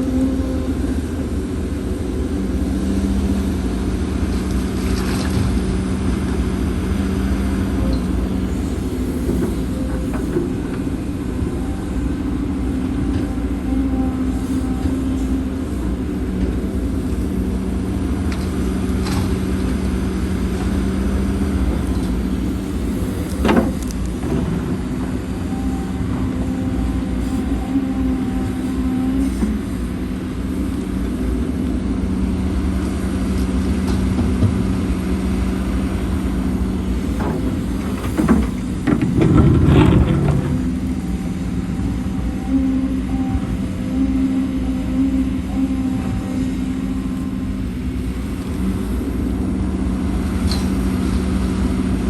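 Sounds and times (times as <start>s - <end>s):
heavy diesel engine running: 0.0s - 52.0s
rough rumbling with knocks: 0.0s - 52.0s.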